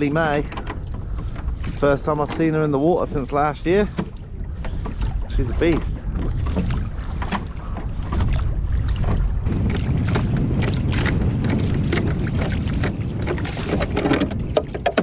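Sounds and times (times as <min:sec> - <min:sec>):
water slapping against hull: 0:00.0 - 0:15.0
wind rumble on microphone: 0:00.0 - 0:15.0.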